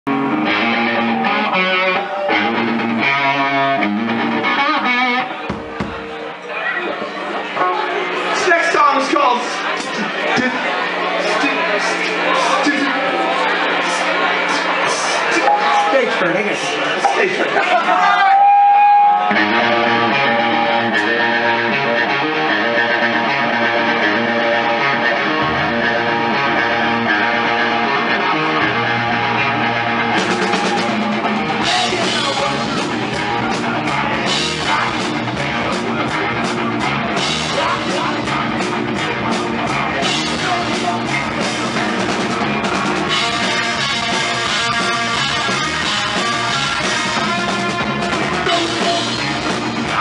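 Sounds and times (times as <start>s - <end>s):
electric guitar chords: 0.0s - 6.4s, 13.2s - 17.8s, 19.1s - 50.0s.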